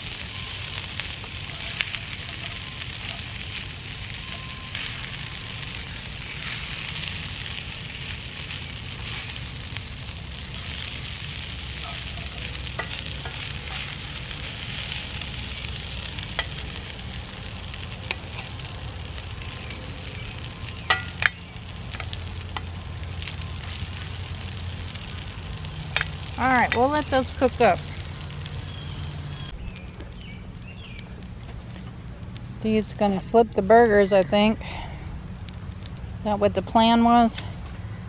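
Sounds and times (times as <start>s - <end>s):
food sizzling in a pan: 0.0s - 31.8s.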